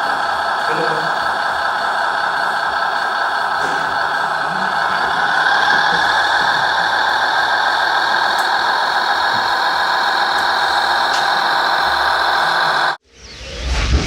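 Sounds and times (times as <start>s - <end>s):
model truck motor whirring: 0.0s - 13.0s.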